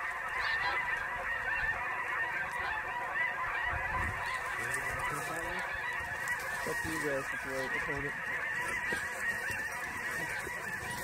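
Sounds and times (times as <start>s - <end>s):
flock of geese honking: 0.0s - 11.0s.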